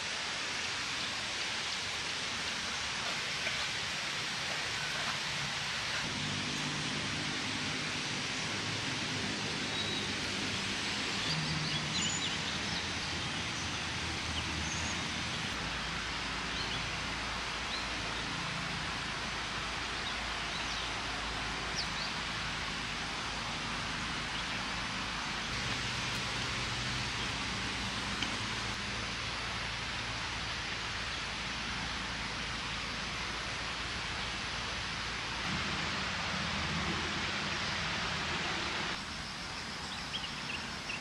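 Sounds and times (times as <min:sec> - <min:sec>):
outdoor nature hiss: 0:00.0 - 0:41.0.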